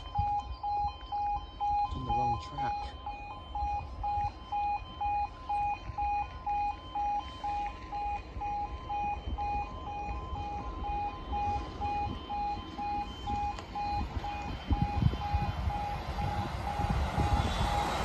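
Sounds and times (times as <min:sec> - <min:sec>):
two-tone crossing alarm: 0:00.0 - 0:18.0.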